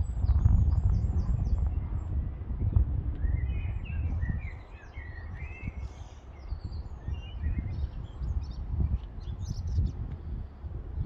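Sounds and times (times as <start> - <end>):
small birds chirping: 0.0 - 11.0
wind buffeting microphone: 0.0 - 11.0.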